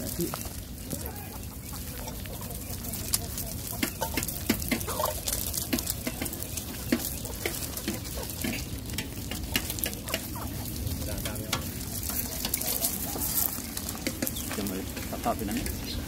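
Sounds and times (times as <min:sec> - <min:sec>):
plastic bag crackling: 0:00.0 - 0:16.0
puppies moving on gravel: 0:00.0 - 0:16.0.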